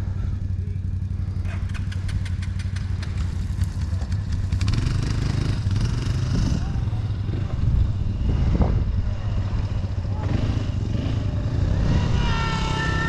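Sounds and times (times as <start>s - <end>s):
engine idling: 0.0s - 11.6s.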